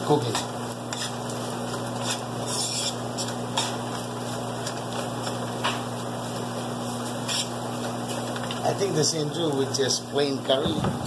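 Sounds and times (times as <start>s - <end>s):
spices sizzling in oil: 0.0s - 10.4s.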